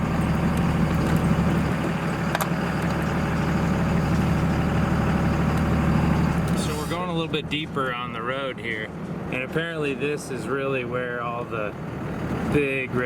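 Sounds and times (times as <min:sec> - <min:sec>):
road noise: 0:00.0 - 0:13.0
truck engine running: 0:00.0 - 0:13.0.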